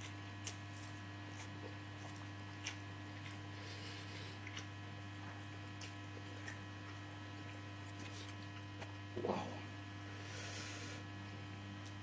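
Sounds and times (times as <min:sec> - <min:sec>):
person chewing with mouth open: 0:00.0 - 0:09.7
low electrical hum: 0:00.0 - 0:12.0.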